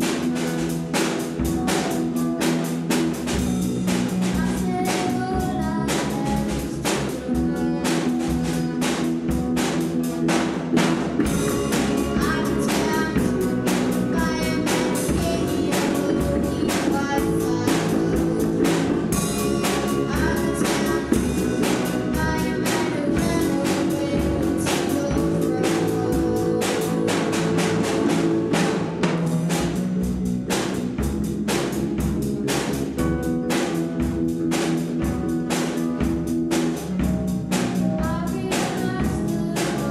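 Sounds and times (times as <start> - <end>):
drum kit hits: 0.0 - 39.9
rock band playing: 0.0 - 39.9.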